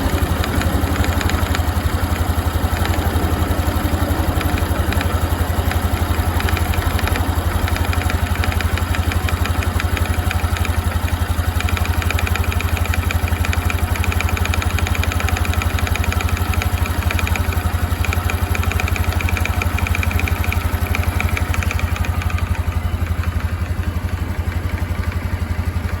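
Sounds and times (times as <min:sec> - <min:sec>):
motorcycle engine idling: 0:00.0 - 0:26.0
rhythmic mechanical clatter: 0:00.0 - 0:26.0.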